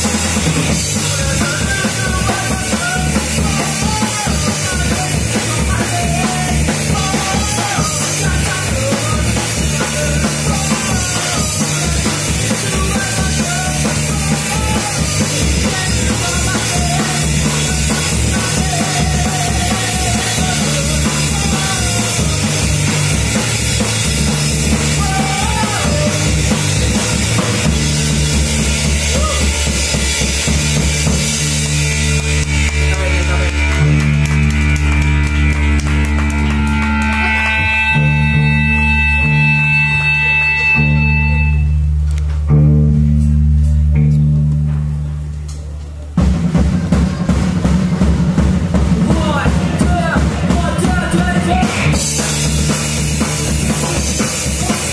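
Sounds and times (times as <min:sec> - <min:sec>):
rock band playing: 0:00.0 - 0:54.9.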